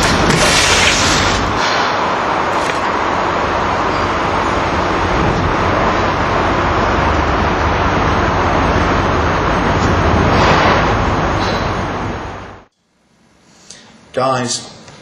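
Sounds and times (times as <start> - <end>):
loud rushing outdoor noise: 0.0 - 12.7.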